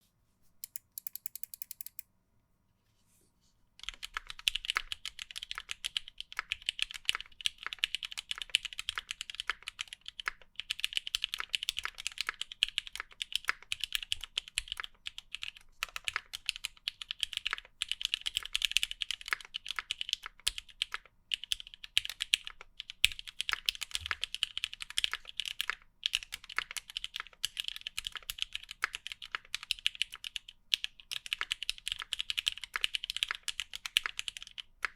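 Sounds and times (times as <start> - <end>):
mechanical keyboard typing: 0.6 - 2.0, 3.8 - 34.9.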